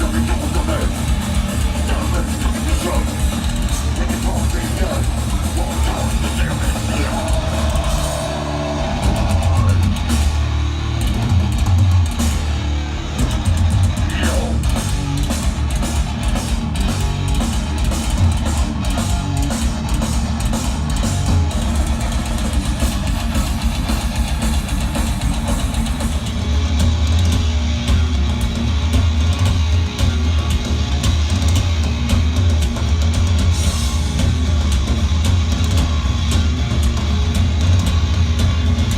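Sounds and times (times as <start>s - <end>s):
distorted electric guitars: 0.0s - 38.9s
drum kit: 0.0s - 38.9s.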